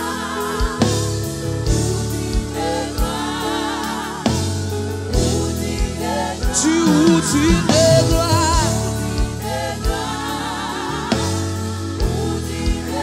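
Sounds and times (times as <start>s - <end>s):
backing harmonies: 0.0s - 13.0s
keyboard: 0.0s - 13.0s
women singing lead: 0.0s - 13.0s.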